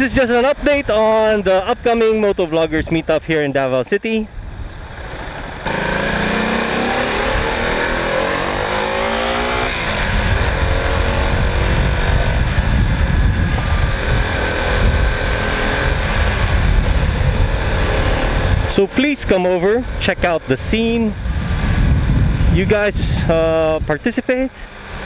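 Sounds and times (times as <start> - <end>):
wind buffeting microphone: 4.3 - 25.0
motorcycle engine accelerating: 4.6 - 25.0.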